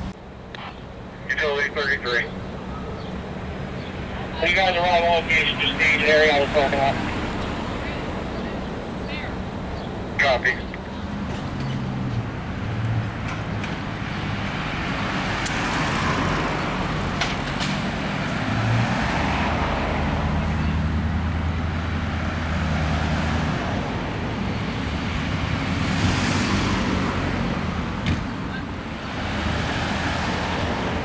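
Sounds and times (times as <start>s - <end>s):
cars passing: 0.0s - 31.0s.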